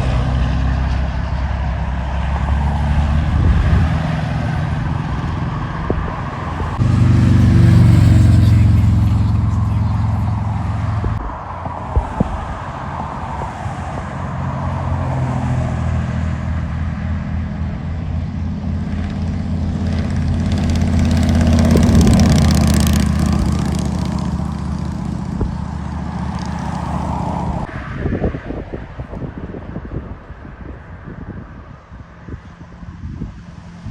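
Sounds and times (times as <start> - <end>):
gusty wind: 0.0 - 33.9
motorcycle engines rumbling: 0.0 - 33.9.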